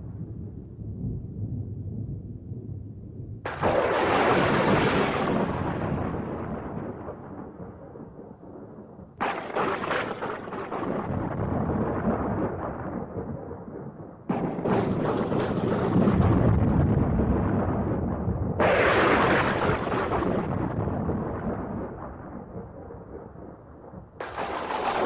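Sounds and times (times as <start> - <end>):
thunderclaps: 0.0 - 25.0.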